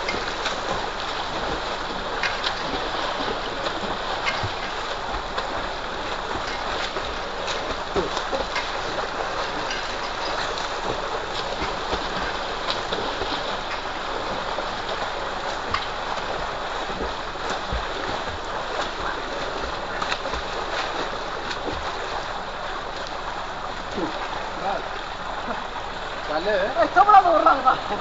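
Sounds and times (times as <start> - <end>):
people splashing in water: 0.0 - 28.0
water gushing from a pipe: 0.0 - 28.0.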